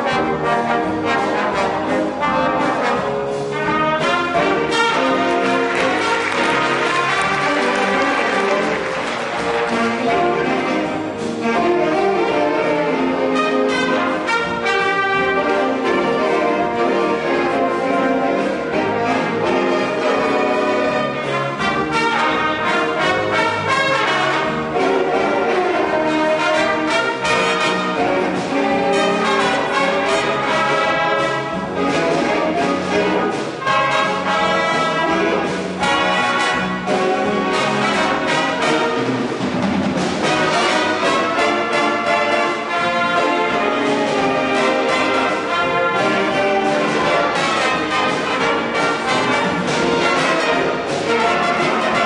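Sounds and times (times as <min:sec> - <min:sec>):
big band playing live: 0:00.0 - 0:52.0.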